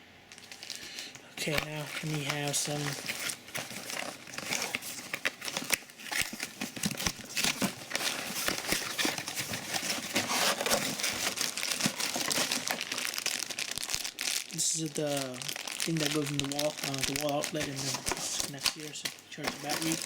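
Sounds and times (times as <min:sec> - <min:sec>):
plastic packaging crinkling: 0:00.3 - 0:20.0.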